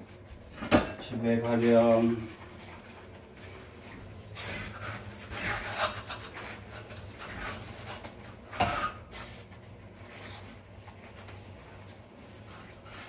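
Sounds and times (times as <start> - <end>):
scraping and rubbing: 1.5 - 10.6, 11.5 - 13.0.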